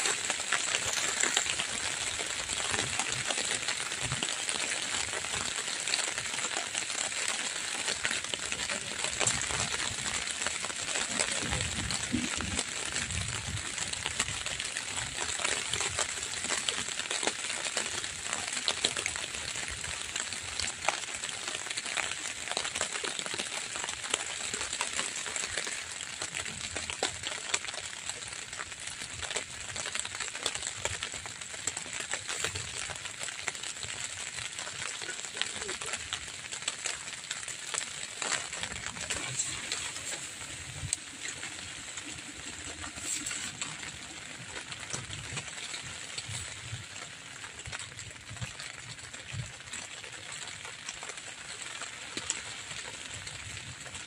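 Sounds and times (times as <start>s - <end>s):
light rain on a tarp: 0.0s - 54.0s
raindrop ticks: 0.0s - 54.0s.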